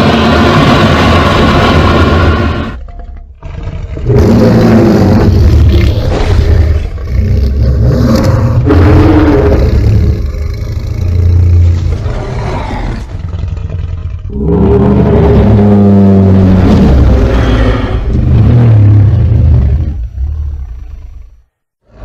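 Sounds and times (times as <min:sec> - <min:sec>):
deep creature roars and growls: 0:00.0 - 0:22.0.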